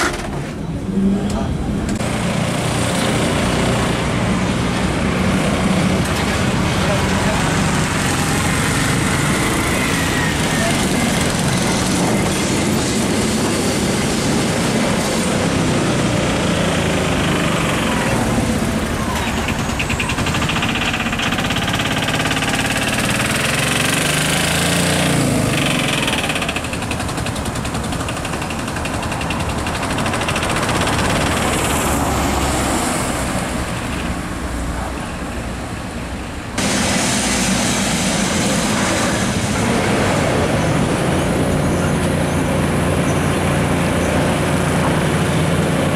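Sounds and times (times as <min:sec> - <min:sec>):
tram running on rails: 0:00.0 - 0:45.9.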